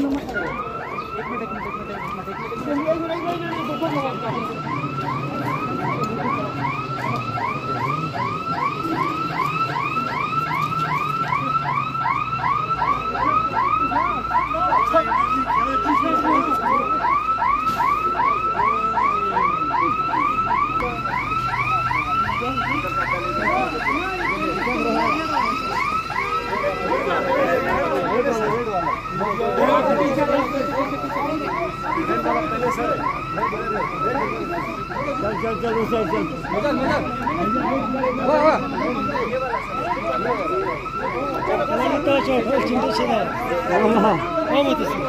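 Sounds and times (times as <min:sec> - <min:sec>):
electronic siren yelping: 0:00.0 - 0:45.0.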